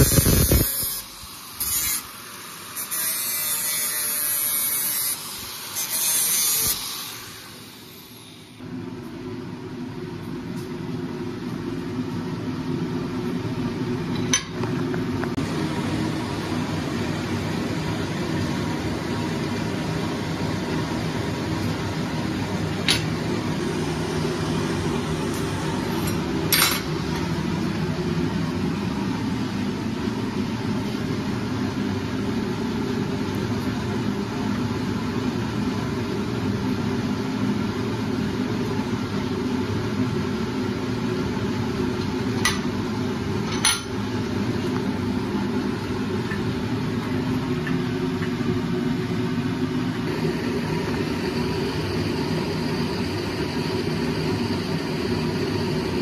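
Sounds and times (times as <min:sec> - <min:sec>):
workshop machinery hum: 0:00.0 - 0:56.0.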